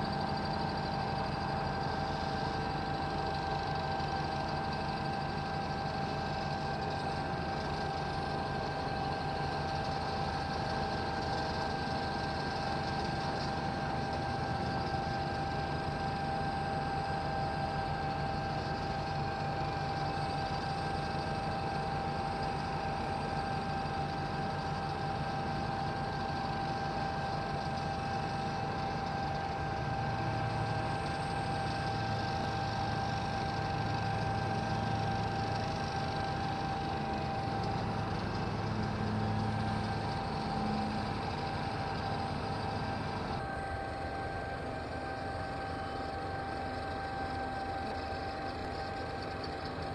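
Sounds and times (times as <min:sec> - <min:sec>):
high-pitched machine whine: 0:00.0 - 0:49.9.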